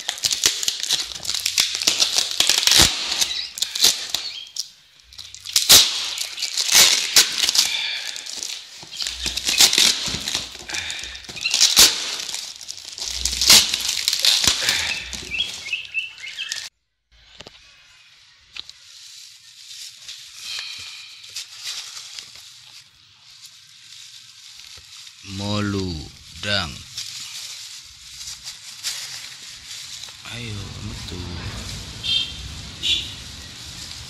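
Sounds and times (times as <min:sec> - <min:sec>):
packaging ripping: 0:00.0 - 0:16.7, 0:18.6 - 0:25.4, 0:26.2 - 0:34.0
plastic and paper crinkling: 0:00.0 - 0:16.7, 0:18.5 - 0:34.0.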